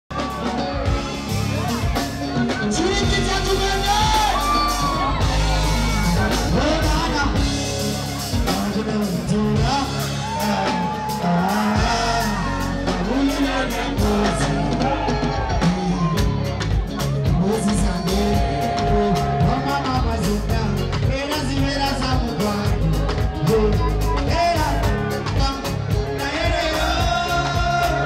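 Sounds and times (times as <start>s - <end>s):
live band music: 0.1s - 28.0s
man singing into a microphone: 2.5s - 7.7s, 8.3s - 16.4s, 17.1s - 28.0s.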